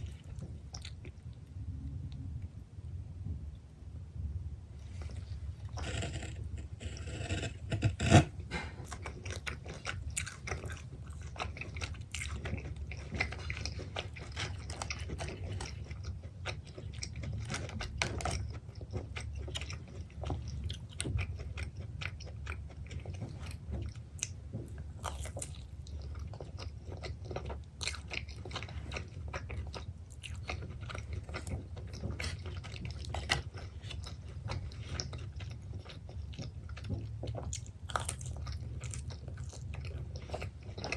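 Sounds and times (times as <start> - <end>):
biting and chewing pizza: 4.8 - 40.9.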